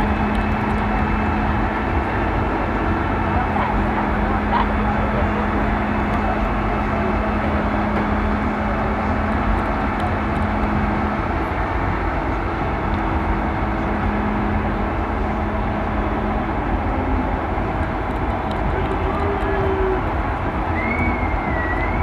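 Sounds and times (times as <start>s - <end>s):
low engine-like drone: 0.0s - 22.0s.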